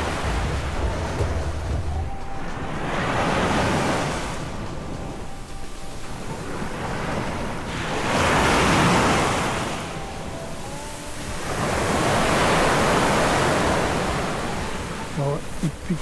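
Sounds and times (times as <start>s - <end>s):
surf breaking on a beach: 0.0s - 16.0s.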